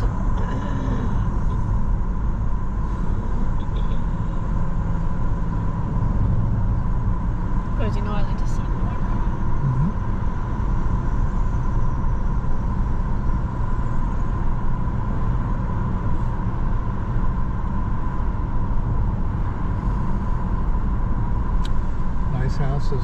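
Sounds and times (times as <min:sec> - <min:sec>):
car engine hum: 0:00.0 - 0:23.0
road and tyre noise: 0:00.0 - 0:23.0.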